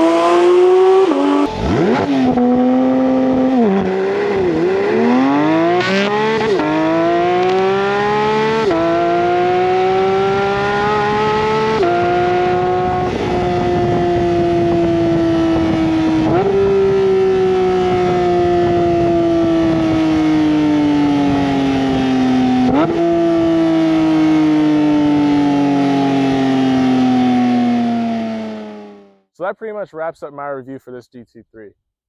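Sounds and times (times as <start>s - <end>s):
car engine accelerating hard: 0.0s - 29.1s.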